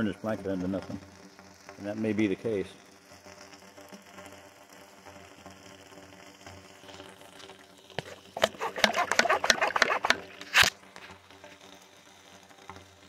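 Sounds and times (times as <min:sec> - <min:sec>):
water sizzling and popping on metal: 0:00.0 - 0:13.0.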